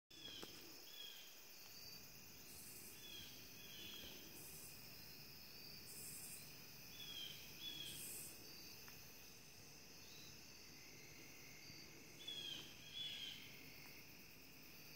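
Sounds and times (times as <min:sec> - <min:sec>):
insects trilling: 0:00.2 - 0:14.9.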